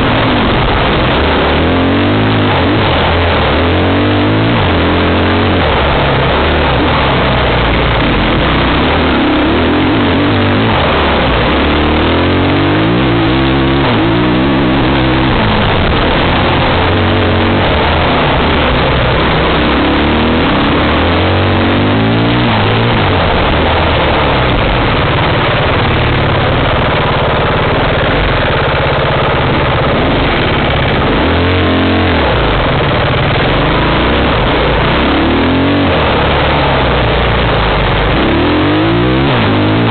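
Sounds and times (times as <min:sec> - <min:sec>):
dirt bike engine revving: 0:00.0 - 0:39.9
wind noise on microphone: 0:00.0 - 0:39.9.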